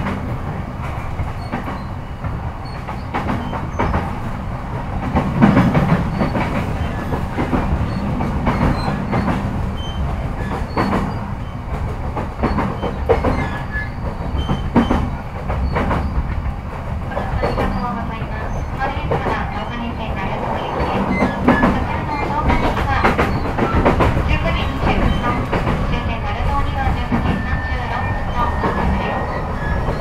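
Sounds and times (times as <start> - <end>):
train interior rumble: 0.0 - 30.0
wheels clicking over rail joints: 5.0 - 30.0.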